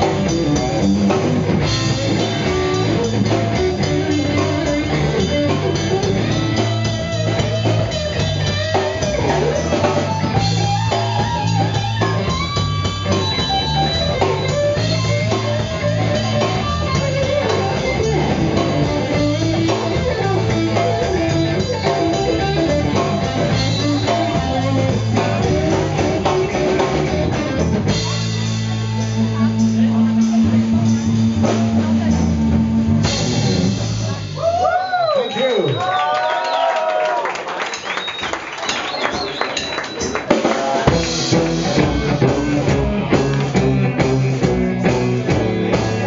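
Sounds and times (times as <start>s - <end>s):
electric guitar lead: 0.0s - 34.6s, 40.0s - 46.0s
walking bass line: 0.0s - 34.7s, 40.9s - 46.0s
drum kit: 0.0s - 35.9s, 37.7s - 46.0s.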